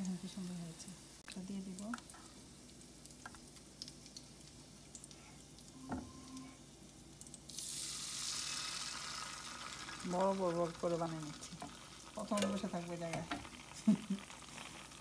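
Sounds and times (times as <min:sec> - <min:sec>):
batter sizzling in oil: 0:00.0 - 0:15.0
hot oil crackling: 0:00.0 - 0:15.0.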